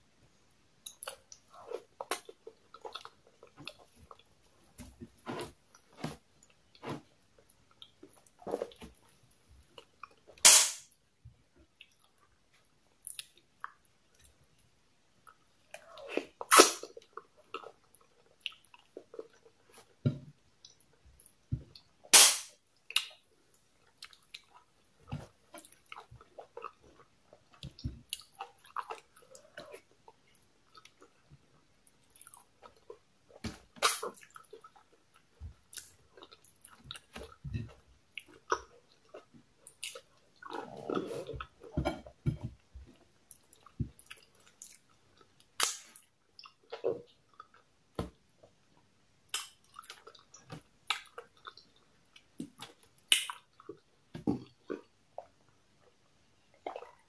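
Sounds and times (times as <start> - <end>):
person chewing food: 0.8 - 10.4, 11.6 - 14.4, 15.2 - 22.1, 22.8 - 57.0.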